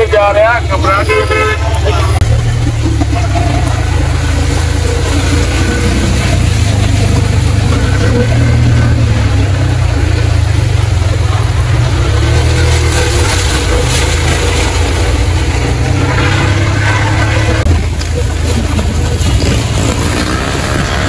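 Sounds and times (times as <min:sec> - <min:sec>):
car engines running: 0:00.0 - 0:21.0
tyres driving through water: 0:00.0 - 0:21.0
heavy rain pouring: 0:01.5 - 0:21.0.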